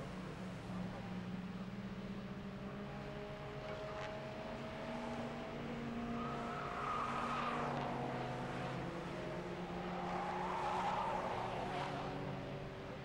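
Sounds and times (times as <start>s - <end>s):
racing car engines at speed: 0.0s - 13.0s.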